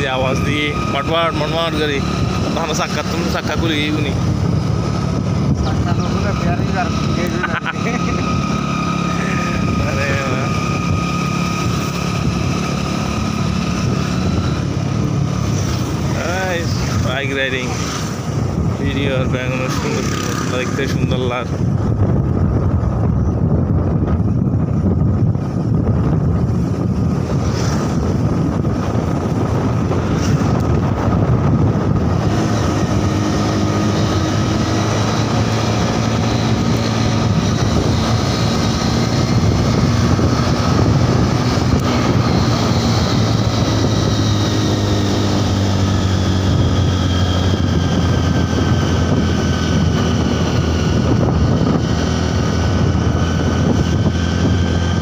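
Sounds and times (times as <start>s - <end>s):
motorcycle engine hum: 0.0s - 55.0s
wind rushing over microphone: 0.0s - 55.0s.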